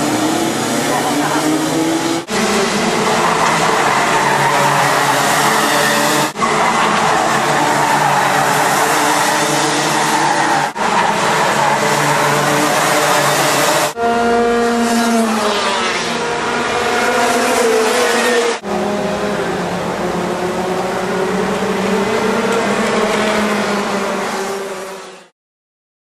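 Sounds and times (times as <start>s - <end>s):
kart engines revving: 0.0s - 25.3s.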